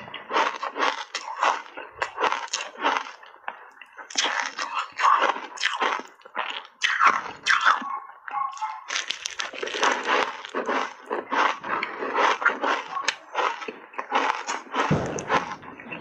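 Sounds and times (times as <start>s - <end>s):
chewing crunchy ice: 0.0s - 16.0s.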